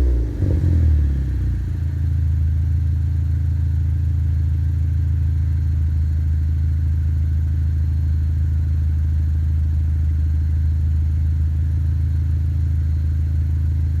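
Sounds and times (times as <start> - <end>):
car exhaust idling: 0.0 - 14.0.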